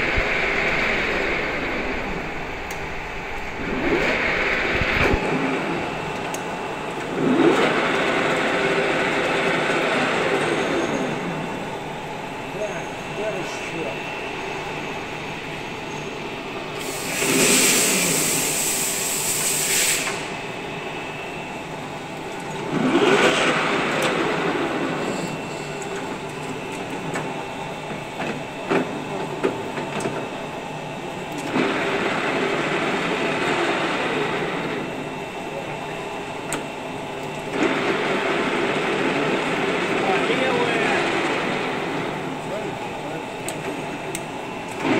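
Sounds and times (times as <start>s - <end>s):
lathe gears whining: 0.0s - 44.9s
steady machine hum: 0.0s - 44.9s.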